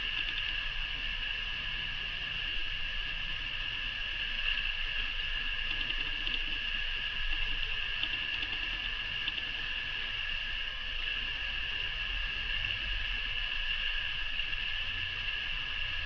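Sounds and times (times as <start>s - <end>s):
high-pitched whine with hiss: 0.0s - 16.0s.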